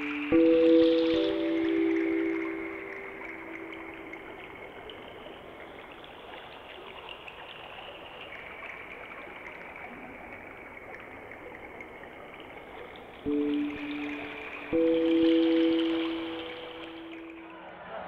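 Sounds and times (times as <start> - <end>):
faint crackles: 0.0 - 17.6
rushing trickling noise: 0.0 - 17.6.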